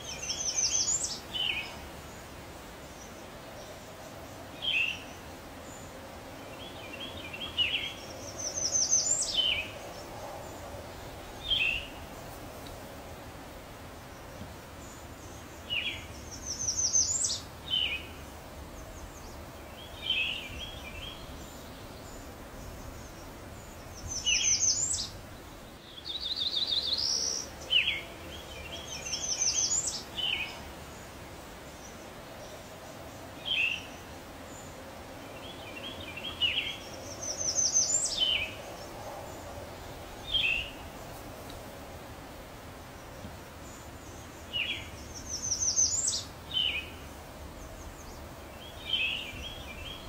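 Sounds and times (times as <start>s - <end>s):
faint steady hiss: 0.0s - 50.0s
songbirds calling: 0.0s - 50.0s.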